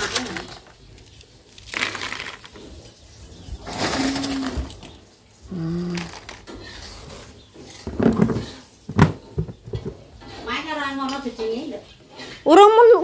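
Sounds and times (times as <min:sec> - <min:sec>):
crackers rustling and clattering: 0:00.0 - 0:10.5.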